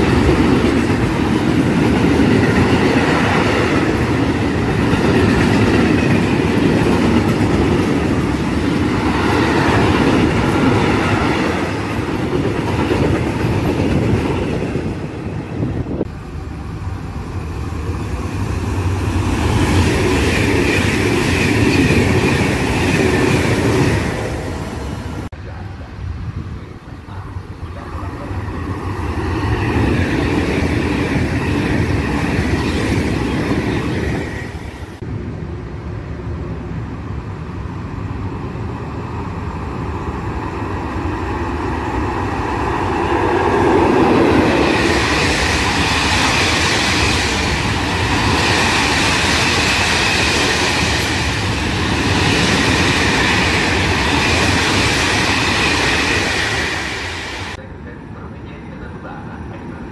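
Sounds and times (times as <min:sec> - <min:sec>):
electric train passing: 0:00.0 - 0:59.9
wheels rumbling on rail: 0:00.0 - 0:59.9.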